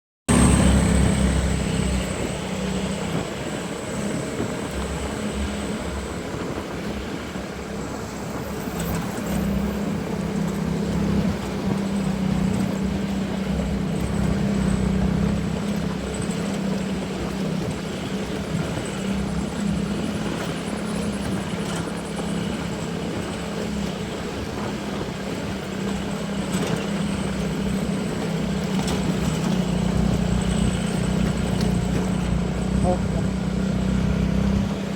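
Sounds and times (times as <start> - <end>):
diesel engine droning: 0.3 - 34.9.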